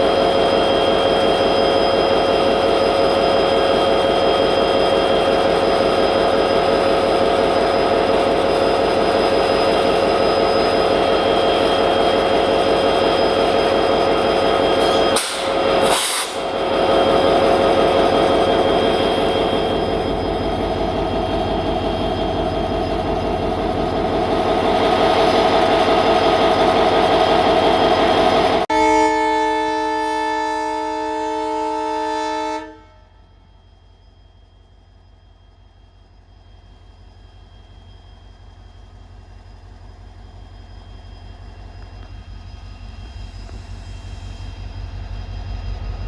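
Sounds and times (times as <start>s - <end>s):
locomotive engine humming: 0.0s - 46.0s.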